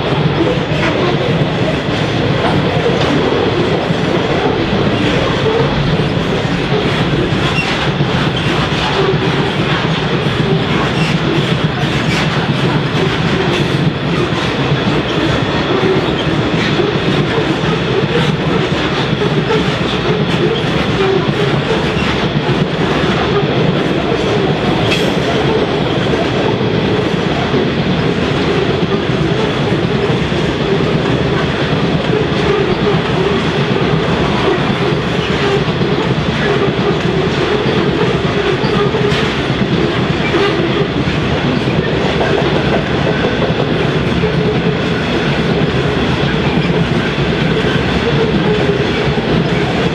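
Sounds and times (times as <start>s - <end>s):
train wagons rolling on rails: 0.0s - 49.9s.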